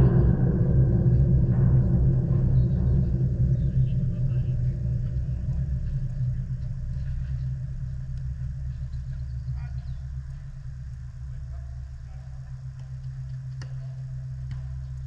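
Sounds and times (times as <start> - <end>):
low rumble: 0.0 - 15.0
faint voices: 2.3 - 14.5.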